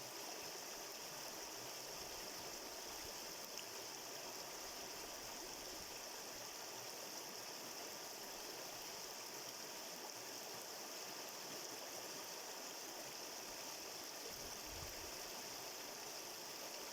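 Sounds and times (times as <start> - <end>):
stream water running: 0.0 - 16.9.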